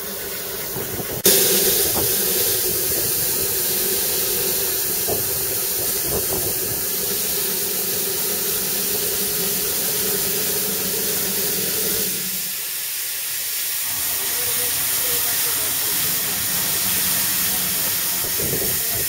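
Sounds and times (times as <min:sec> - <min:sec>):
steam hissing from locomotive: 0:00.0 - 0:19.0.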